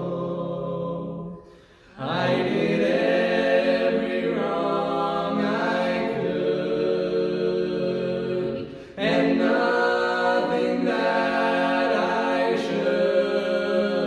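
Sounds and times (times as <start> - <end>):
trio singing a hymn a cappella: 0.0 - 14.0.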